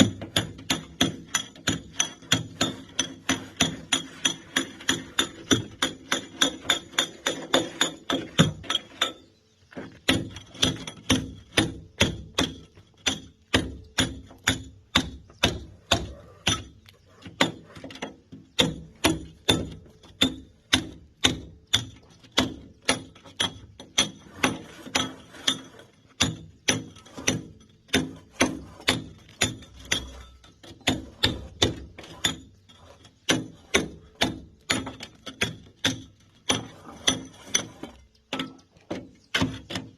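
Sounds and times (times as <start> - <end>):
hammer striking steel chisel: 0.0 - 9.2, 10.1 - 16.8, 17.4 - 39.8.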